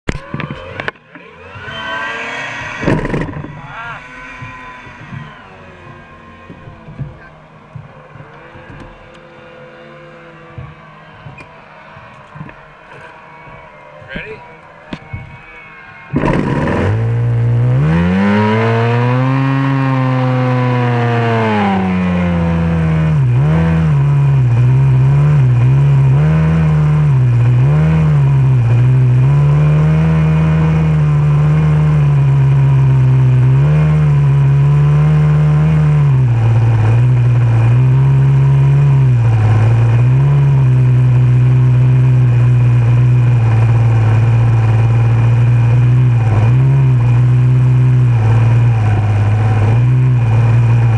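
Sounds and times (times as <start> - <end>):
outboard racing motor revving: 0.1 - 50.9.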